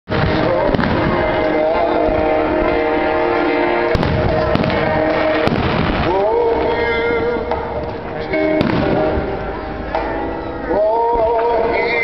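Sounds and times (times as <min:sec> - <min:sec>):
music with held tones: 0:00.1 - 0:12.0.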